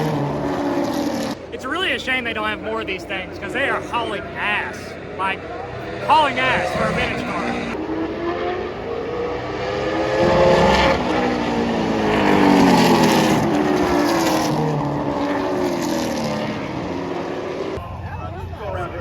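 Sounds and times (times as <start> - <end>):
race cars passing at speed: 0.0 - 1.7, 2.3 - 17.8.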